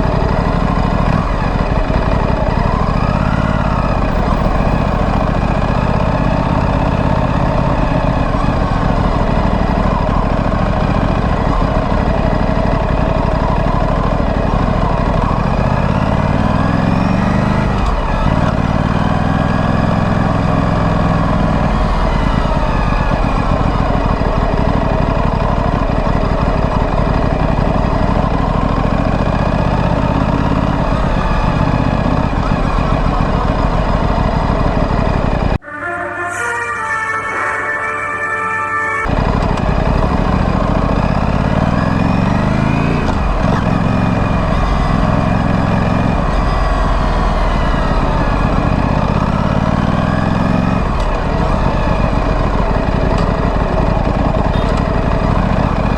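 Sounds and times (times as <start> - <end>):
motorcycle engine revving: 0.0 - 35.6, 39.0 - 55.9.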